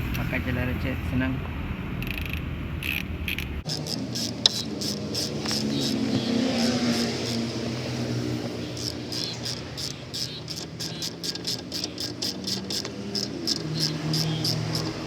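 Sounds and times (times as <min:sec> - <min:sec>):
socket ratchet clicking: 0:02.0 - 0:15.0.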